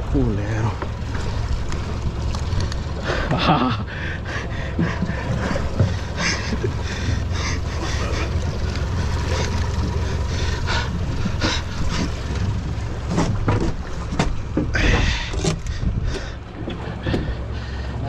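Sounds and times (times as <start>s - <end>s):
low rumble: 0.0s - 18.0s
water splashing against boat: 0.0s - 18.0s.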